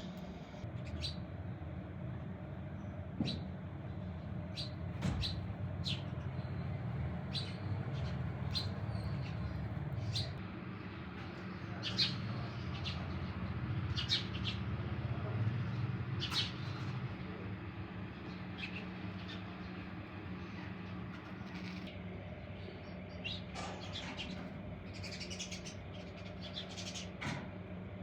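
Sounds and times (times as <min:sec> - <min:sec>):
small birds chirping: 0:00.0 - 0:01.3, 0:04.4 - 0:27.2
steady low hum: 0:00.0 - 0:28.0.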